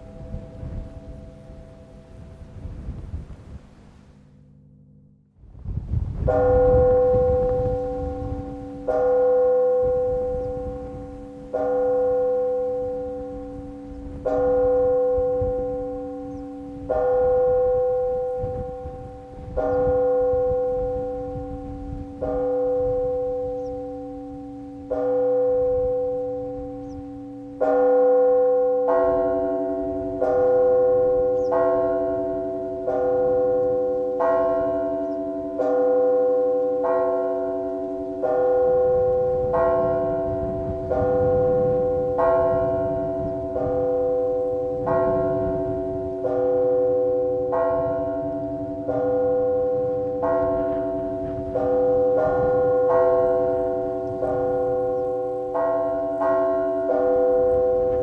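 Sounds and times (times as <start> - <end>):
church bells ringing: 0.0 - 3.6, 4.2 - 58.0.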